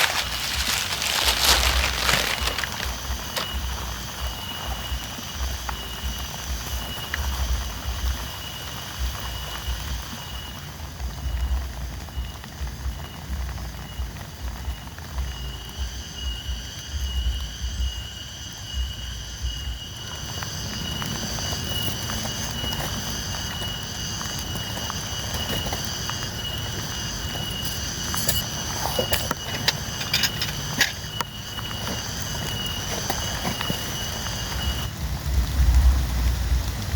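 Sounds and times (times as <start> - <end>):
rain falling: 0.0 - 17.9, 19.1 - 36.9.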